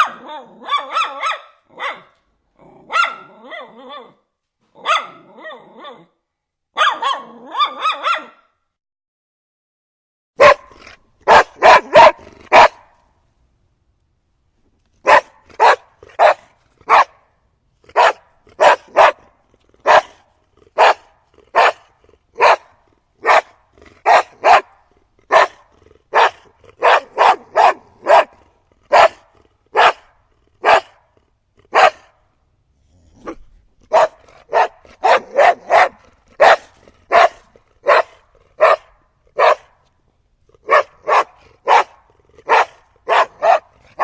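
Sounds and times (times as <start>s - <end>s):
large dog barking: 0.0s - 8.5s, 10.4s - 13.0s, 15.0s - 32.2s, 33.1s - 39.8s, 40.6s - 44.0s.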